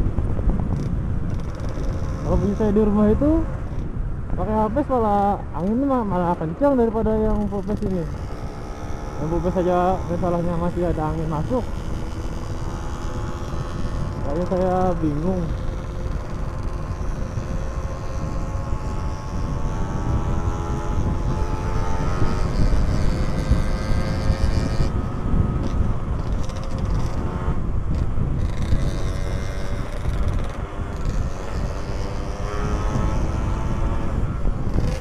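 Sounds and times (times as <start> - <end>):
two-stroke motorcycle engine revving: 0.0 - 35.0
wind rumble on microphone: 0.0 - 35.0.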